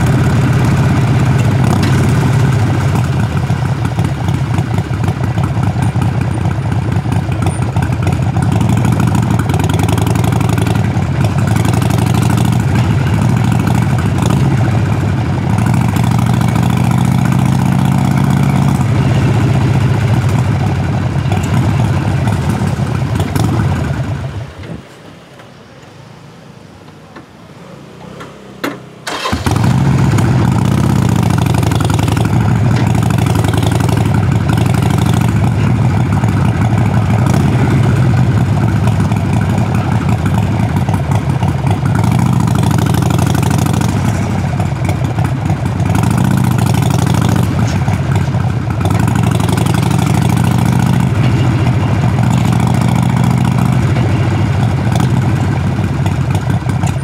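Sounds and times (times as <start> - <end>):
motorcycle engine running: 0.0 - 24.6, 28.1 - 57.0.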